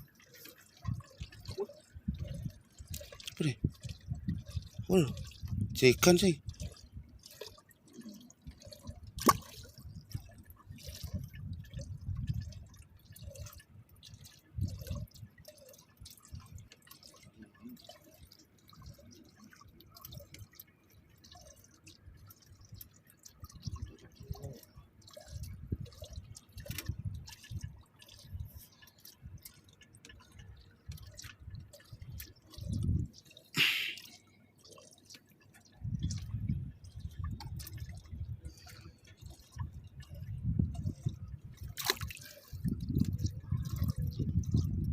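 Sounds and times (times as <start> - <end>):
water dripping and splashing: 0.0 - 44.9.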